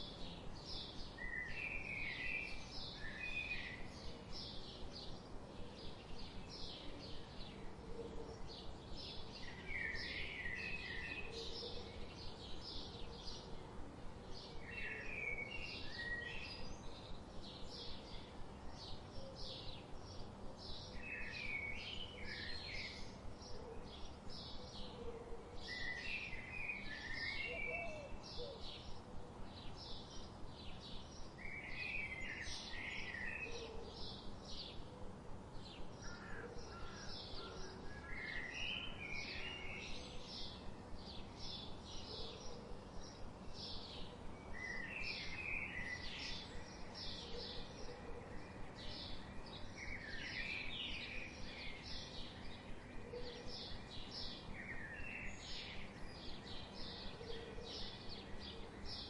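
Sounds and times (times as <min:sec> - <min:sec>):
low background noise: 0:00.0 - 0:59.0
songbirds chirping: 0:00.0 - 0:59.0.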